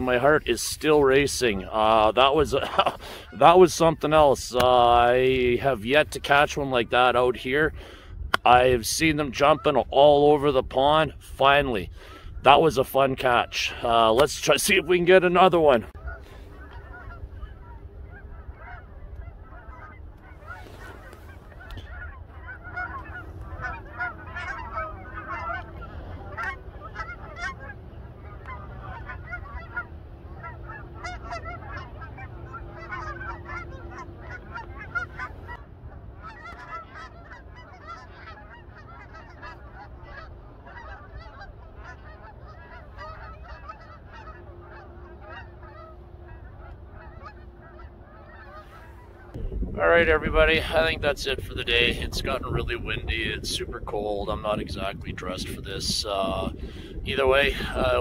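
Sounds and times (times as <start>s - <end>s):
geese honking: 0.0s - 58.0s
wind rumbling on microphone: 0.0s - 58.0s.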